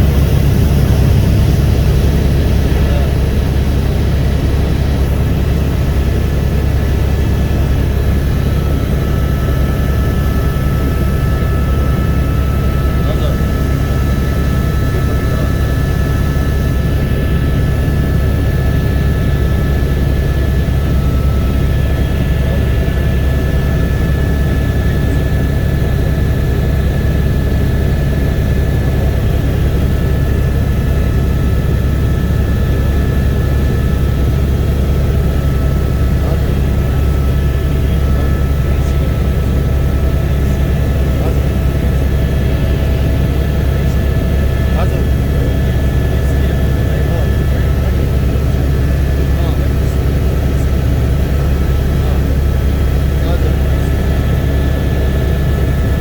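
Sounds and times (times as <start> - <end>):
helicopter turbine and rotor drone: 0.0 - 56.0.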